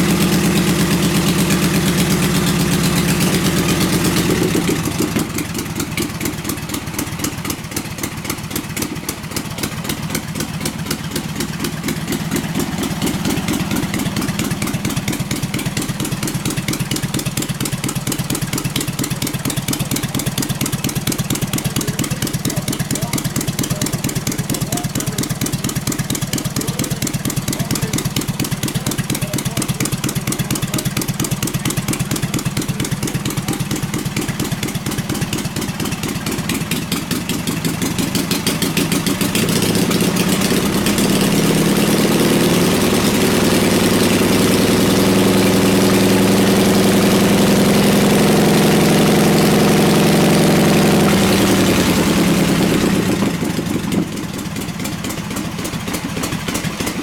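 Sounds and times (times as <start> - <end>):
racing engine idling: 0.0 - 57.0.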